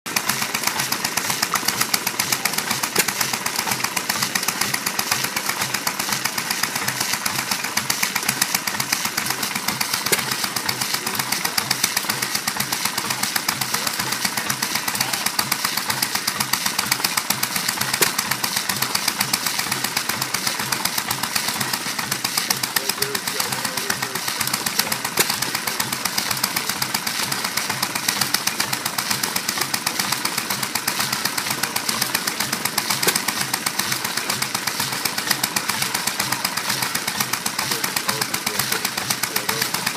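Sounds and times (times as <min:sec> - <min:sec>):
stationary engine clattering: 0:00.1 - 0:39.9.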